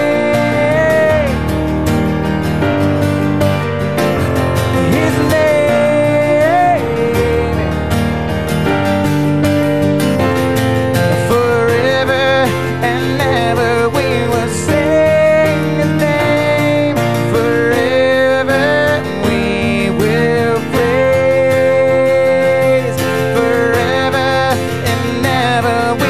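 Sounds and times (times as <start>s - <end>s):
acoustic guitar: 0.0s - 26.0s
electric keyboard: 0.0s - 26.0s.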